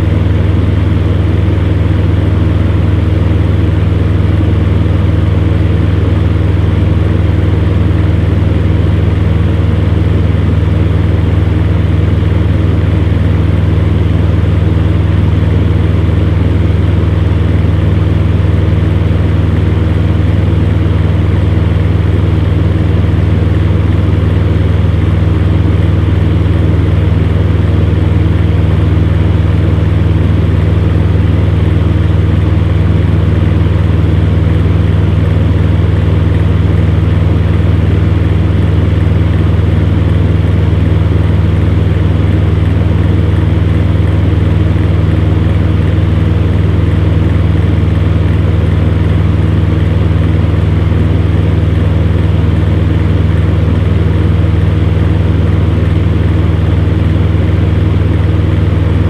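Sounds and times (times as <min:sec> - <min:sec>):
fan heater humming: 0:00.0 - 0:59.0.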